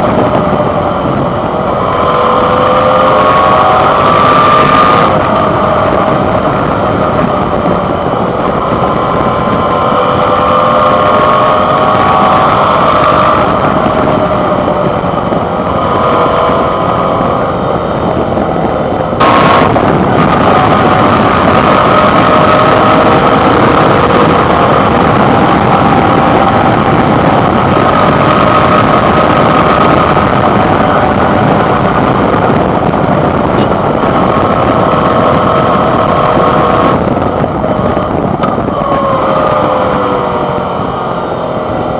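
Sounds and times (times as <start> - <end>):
motorcycle engine running: 0.0 - 41.9
wind rush on microphone: 0.0 - 41.9.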